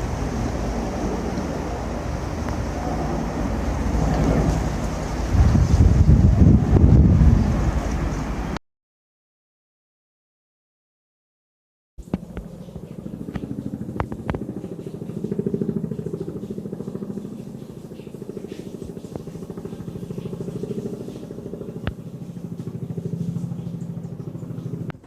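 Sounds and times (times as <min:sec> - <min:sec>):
helicopter rotor thudding: 0:00.0 - 0:08.1, 0:12.0 - 0:25.0.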